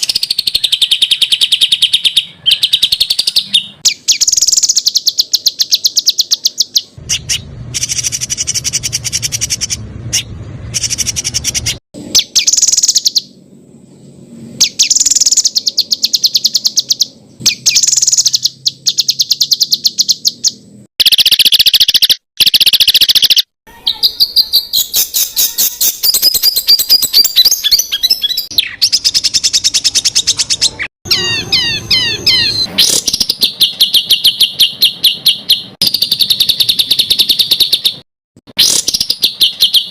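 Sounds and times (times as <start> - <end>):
bird song with fast trills: 0.0 - 38.0, 38.6 - 39.9.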